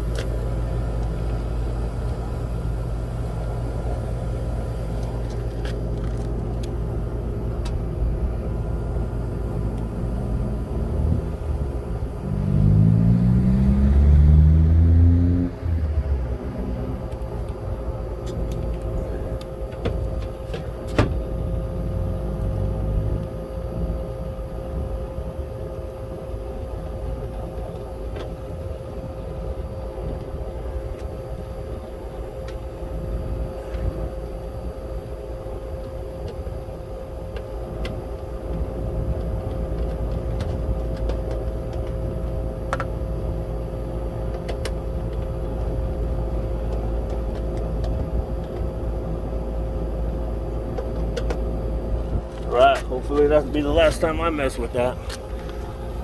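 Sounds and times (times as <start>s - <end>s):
air conditioner hum and rumble: 0.0s - 56.0s.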